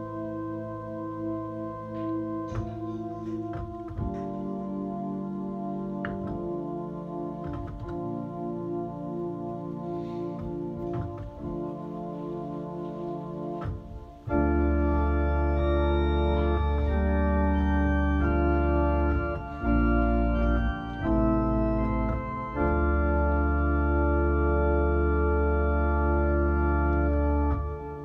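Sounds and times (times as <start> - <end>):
organ playing chords: 0.0 - 28.0.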